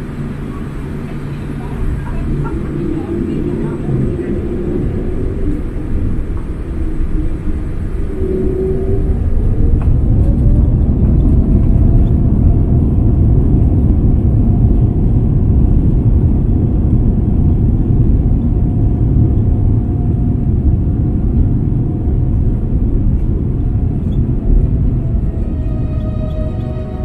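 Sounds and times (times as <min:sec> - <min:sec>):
jet engine rumble in cabin: 0:00.0 - 0:27.0
jet engine whine: 0:00.0 - 0:27.0.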